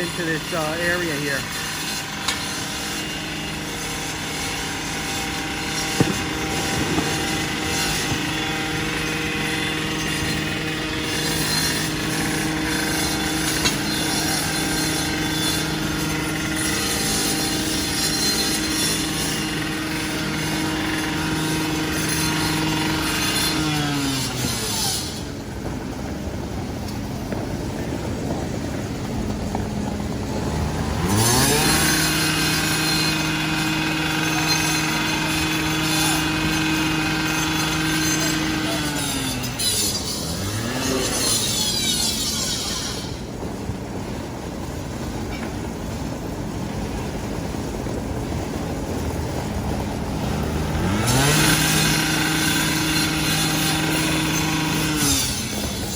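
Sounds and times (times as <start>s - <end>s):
engine running at high speed: 0.0s - 55.9s.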